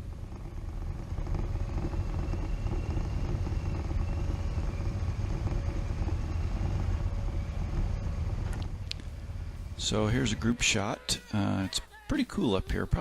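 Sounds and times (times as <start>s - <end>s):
motorcycle low rumble: 0.0s - 10.9s.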